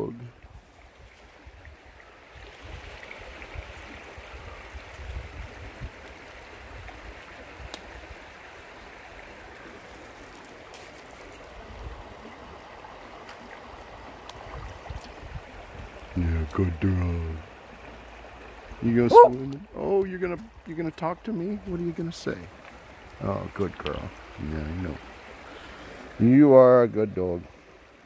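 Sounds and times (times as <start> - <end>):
creek babbling over stones: 0.0 - 28.0.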